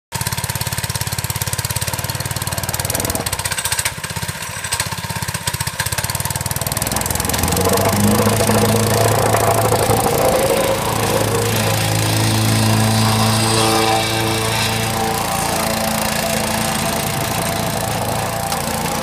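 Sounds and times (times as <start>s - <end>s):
plate compactor engine running: 0.2s - 19.0s.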